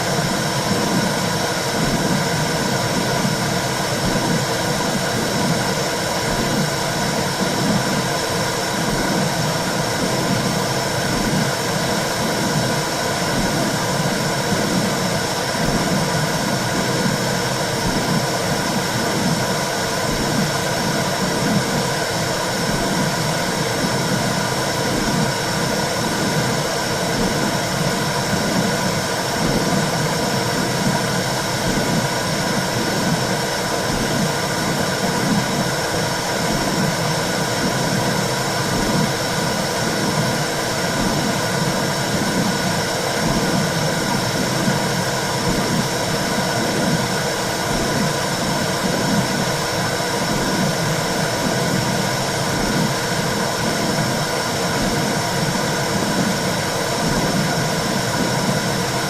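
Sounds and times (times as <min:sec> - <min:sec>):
rhythmic whooshing noise: 0:00.0 - 0:59.0.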